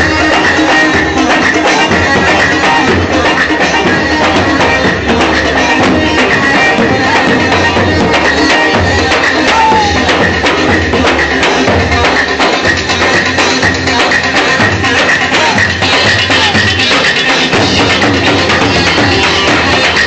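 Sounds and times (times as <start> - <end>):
loud music with drums: 0.0 - 20.0.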